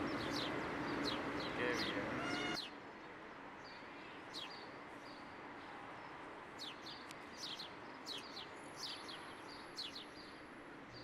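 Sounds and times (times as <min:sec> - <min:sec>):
small birds chirping: 0:00.0 - 0:05.4, 0:06.0 - 0:11.0.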